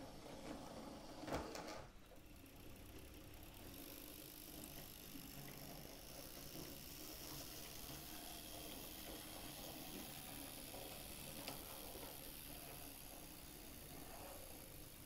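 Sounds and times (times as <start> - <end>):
model train motor hum: 2.1 - 15.0.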